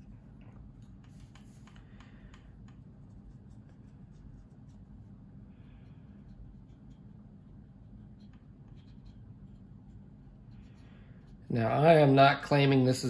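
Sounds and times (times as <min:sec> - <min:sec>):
paintbrush strokes on plastic: 0:00.0 - 0:11.5
steady low hum: 0:00.0 - 0:13.0.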